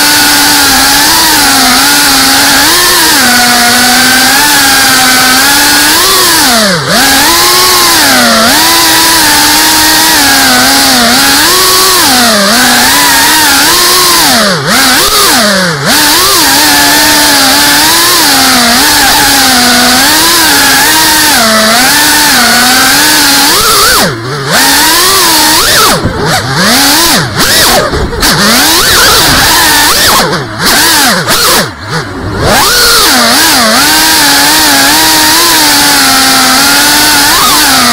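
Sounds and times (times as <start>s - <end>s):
drone motors whining: 0.0s - 37.9s.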